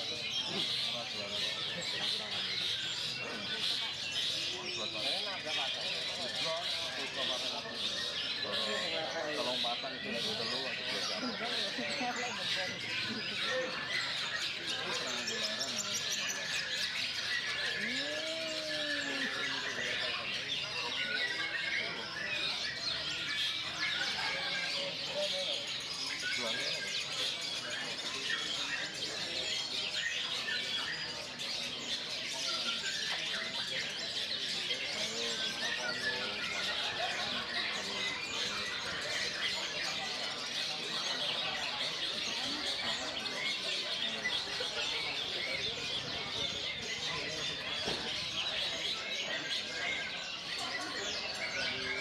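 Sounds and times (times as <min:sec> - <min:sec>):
bird singing fast chirps and trills: 0:00.0 - 0:52.0.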